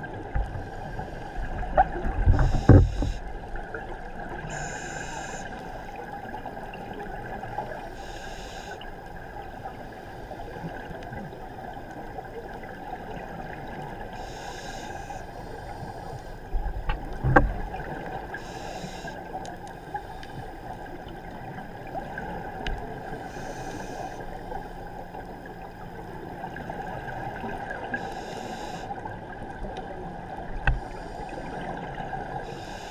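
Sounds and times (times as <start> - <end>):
muffled underwater ambience: 0.0 - 32.9.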